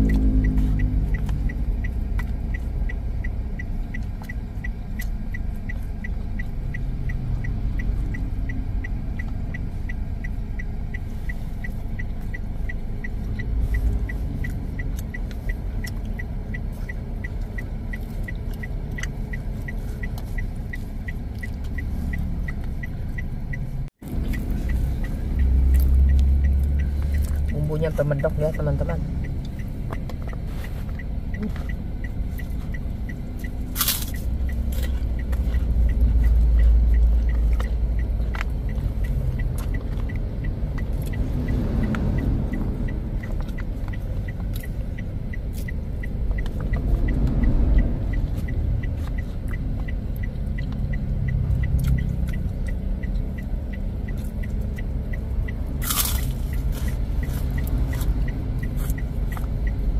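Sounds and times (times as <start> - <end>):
person chewing food: 0.0 - 28.0, 29.1 - 59.9
low car rumble: 0.0 - 59.9.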